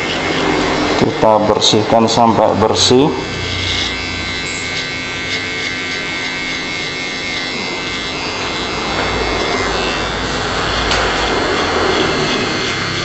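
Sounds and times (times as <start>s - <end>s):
clipper blades cutting hair: 0.0s - 13.0s
hair clipper whining: 0.0s - 13.0s.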